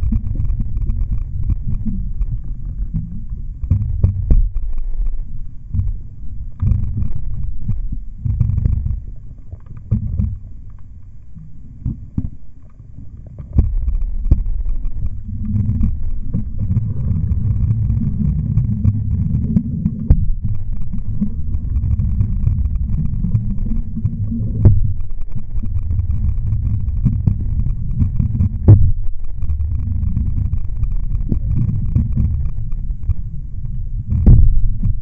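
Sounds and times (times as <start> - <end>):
muffled underwater water rush: 0.0 - 35.0.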